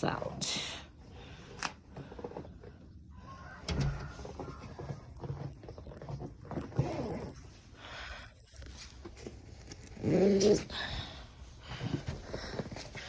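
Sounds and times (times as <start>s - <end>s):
shuffling: 1.3s - 13.0s.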